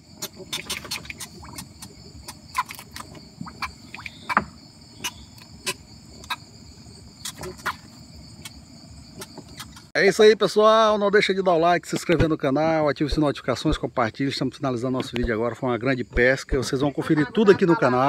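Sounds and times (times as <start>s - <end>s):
night insects chirring: 0.0s - 18.0s.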